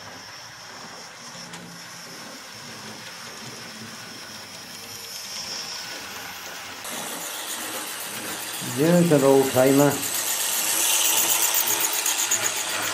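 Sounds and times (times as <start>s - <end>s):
model train motor whine: 0.0s - 12.9s
model train wheel noise: 0.0s - 12.9s.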